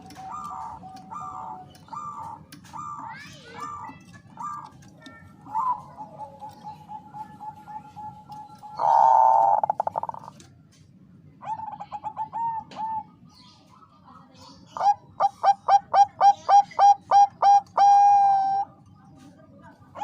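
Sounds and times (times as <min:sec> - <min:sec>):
dove cooing: 0:00.0 - 0:10.5, 0:11.4 - 0:13.2, 0:14.7 - 0:18.8.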